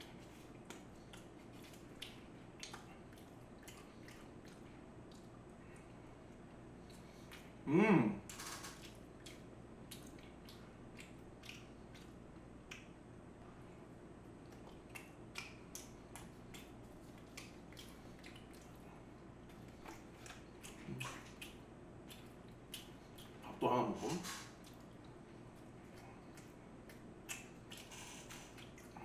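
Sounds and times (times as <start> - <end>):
chewing with wet mouth smacks: 0.0 - 7.6, 8.8 - 13.0, 13.8 - 23.5, 24.5 - 29.0.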